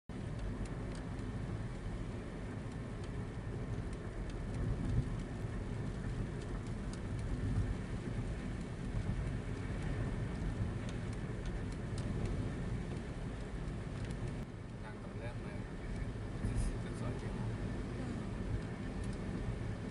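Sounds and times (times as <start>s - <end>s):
car driving on a wet road: 0.1s - 19.9s
rain drops ticking on a car: 0.1s - 19.9s.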